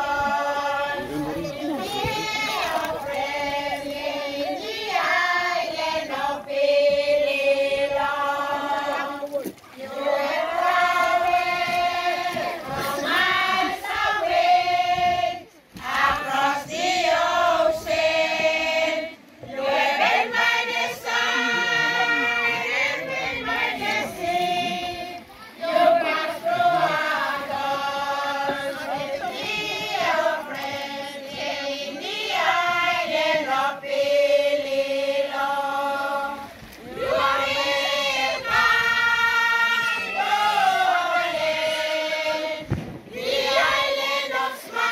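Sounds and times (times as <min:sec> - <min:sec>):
women and children singing: 0:00.0 - 0:44.9.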